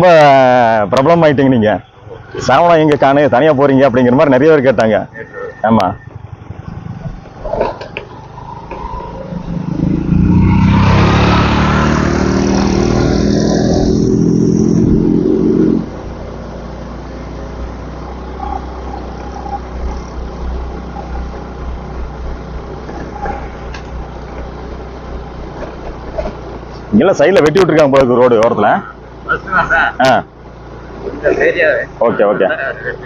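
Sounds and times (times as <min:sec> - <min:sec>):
motorcycle engine running: 0:00.7 - 0:33.0.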